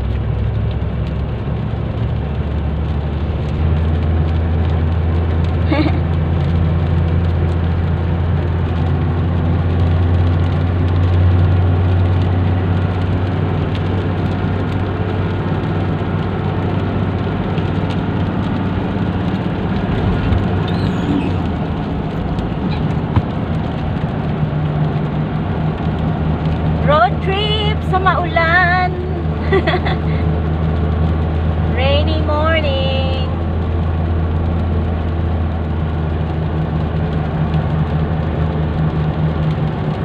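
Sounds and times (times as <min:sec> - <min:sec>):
road noise inside car: 0:00.0 - 0:40.0
vehicle engine drone: 0:00.0 - 0:40.0.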